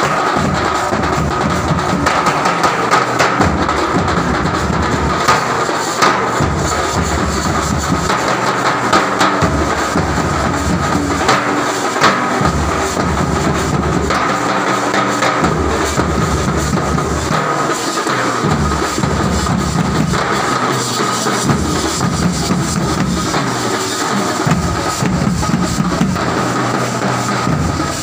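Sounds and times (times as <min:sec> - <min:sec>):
drums beaten fast: 0:00.0 - 0:28.0.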